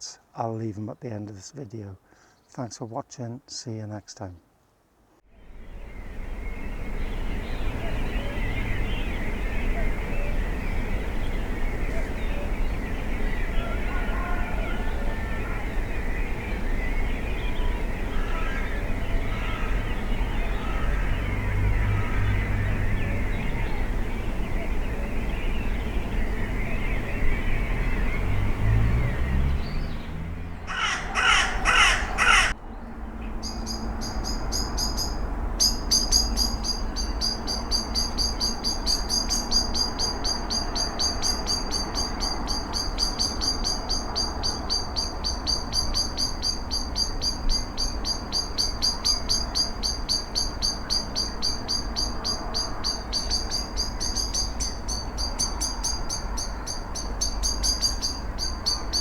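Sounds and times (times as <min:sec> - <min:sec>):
fast high-pitched birdsong: 0:05.6 - 0:59.0
bird harsh calls: 0:06.3 - 0:32.6, 0:33.2 - 0:59.0.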